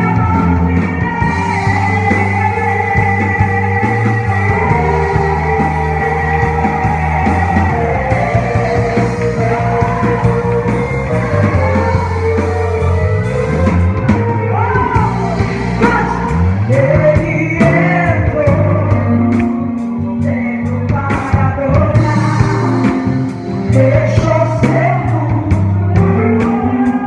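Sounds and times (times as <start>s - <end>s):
person singing: 0.0s - 27.0s
rock band playing: 0.0s - 27.0s.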